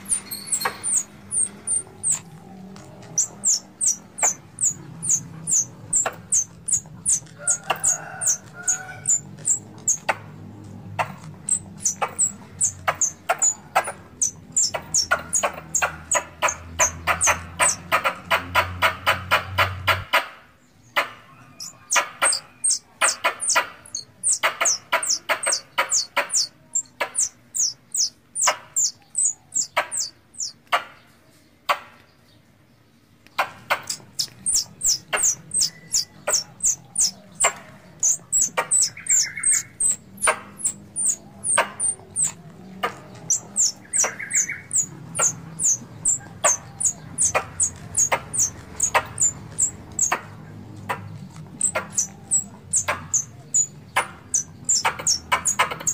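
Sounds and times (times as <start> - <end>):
squirrel chipping calls: 0.0 - 31.0, 33.2 - 55.9.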